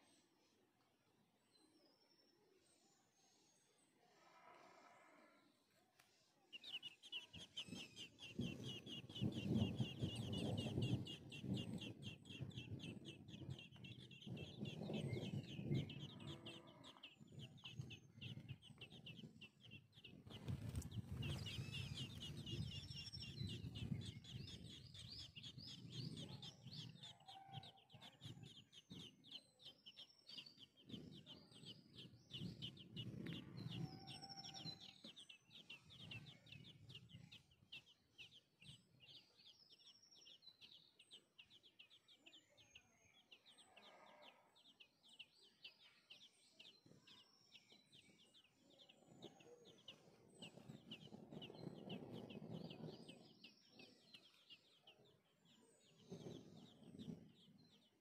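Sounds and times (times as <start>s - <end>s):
nestlings chirping: 6.5s - 58.0s.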